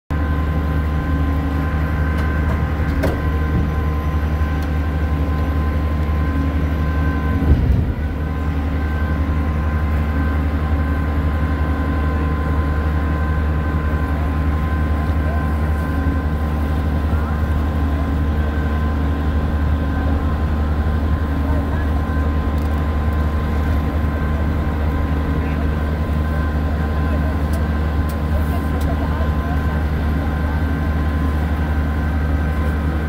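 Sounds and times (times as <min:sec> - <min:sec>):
boat engine running: 0:00.1 - 0:33.0.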